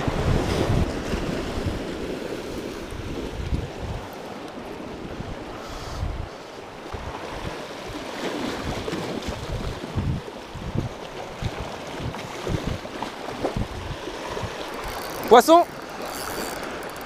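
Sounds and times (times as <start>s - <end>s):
waves splashing over rocks: 0.0s - 5.7s, 6.4s - 17.0s
wind buffeting microphone: 0.0s - 17.0s.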